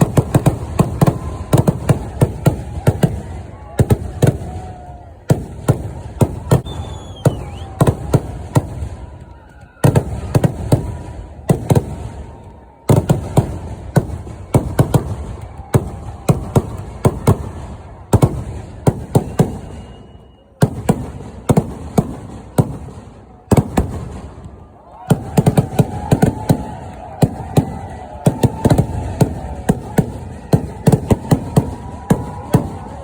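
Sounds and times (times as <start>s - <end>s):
fireworks banging: 0.0s - 33.0s
fireworks whistling: 0.0s - 33.0s.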